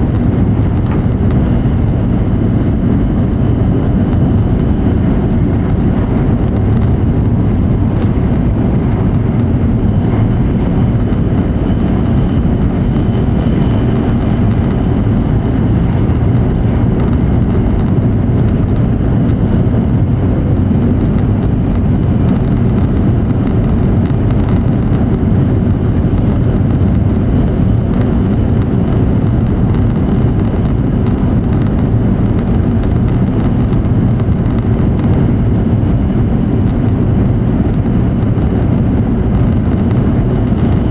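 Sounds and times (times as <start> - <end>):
train cabin deep rumble: 0.0 - 40.9.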